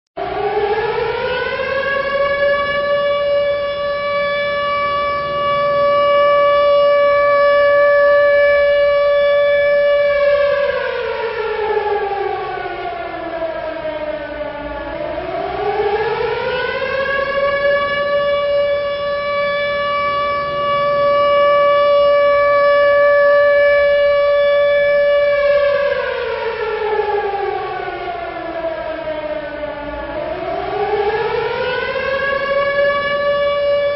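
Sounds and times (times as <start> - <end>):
air-raid siren wailing: 0.2 - 33.9.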